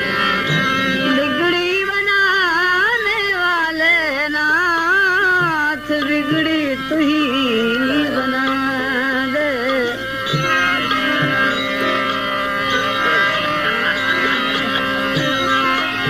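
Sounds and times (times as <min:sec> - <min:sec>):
devotional melody: 0:00.0 - 0:16.0.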